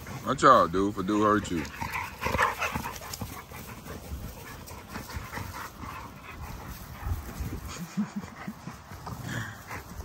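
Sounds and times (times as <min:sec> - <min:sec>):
dogs growling: 0:00.0 - 0:10.0
dogs panting: 0:00.0 - 0:10.0
dogs scuffling: 0:00.0 - 0:10.0.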